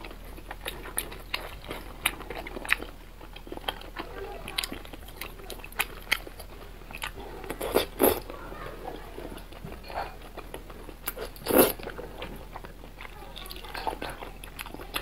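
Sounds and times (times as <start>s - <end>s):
wet chewing and slurping noodles: 0.0s - 15.0s.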